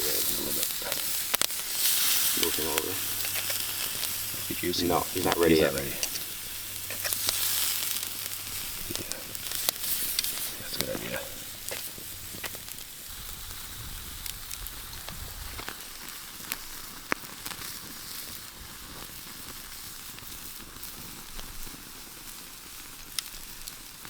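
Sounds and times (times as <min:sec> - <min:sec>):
burgers sizzling: 0:00.0 - 0:24.0
campfire crackles and pops: 0:00.0 - 0:24.0.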